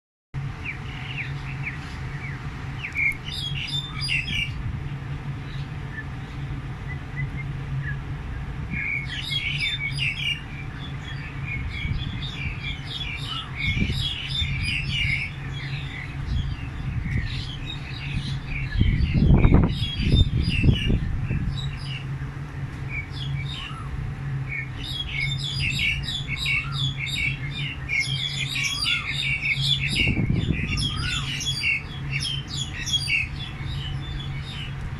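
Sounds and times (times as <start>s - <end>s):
steady low hum: 0.4s - 34.9s
small birds chirping: 0.5s - 34.9s.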